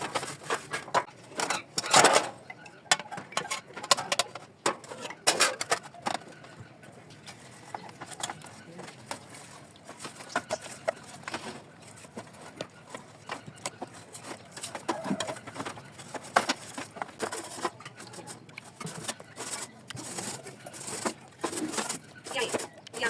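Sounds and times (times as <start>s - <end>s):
grill parts clicking and knocking: 0.0s - 23.0s.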